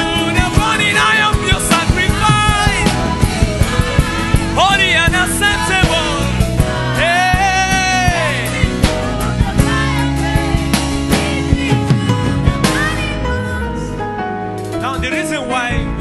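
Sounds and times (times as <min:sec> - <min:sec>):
live worship band playing: 0:00.0 - 0:16.0.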